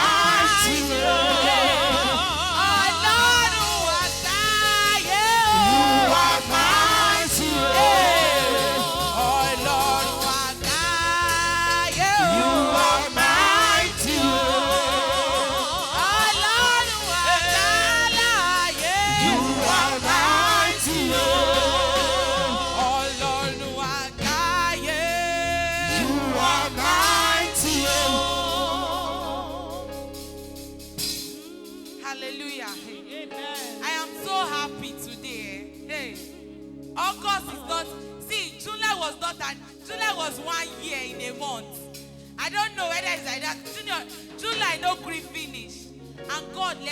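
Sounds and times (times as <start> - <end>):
instrumental accompaniment: 0.0 - 42.4
gospel choir singing: 0.0 - 46.9.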